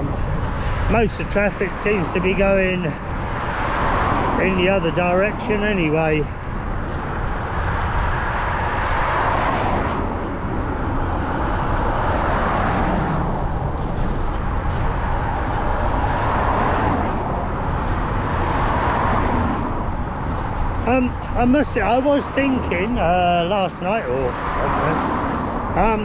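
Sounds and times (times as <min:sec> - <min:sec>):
steady low rumble: 0:00.0 - 0:24.9
cars passing: 0:00.0 - 0:26.0.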